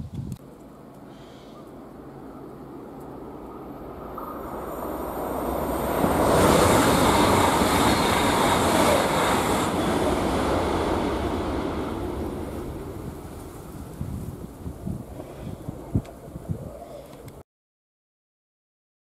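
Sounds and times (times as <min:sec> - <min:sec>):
high-speed train passing: 0:00.5 - 0:16.8.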